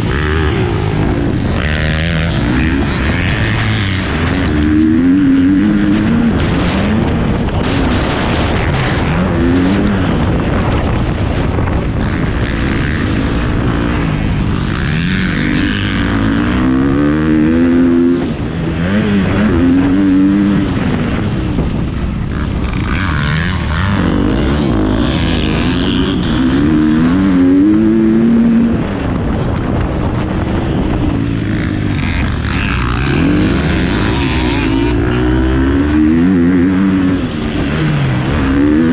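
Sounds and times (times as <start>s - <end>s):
constant rushing noise: 0.0s - 38.9s
dirt bike engine revving: 0.0s - 38.9s.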